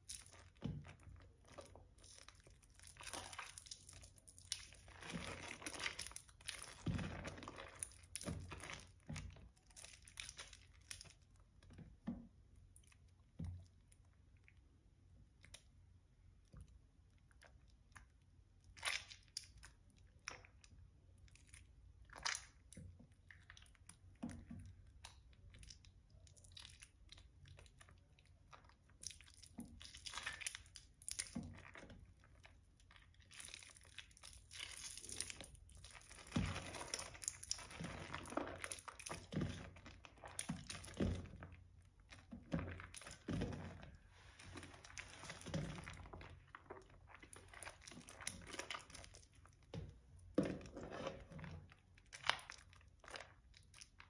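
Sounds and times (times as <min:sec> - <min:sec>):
wet soap crunching and crackling: 0:00.0 - 0:54.0.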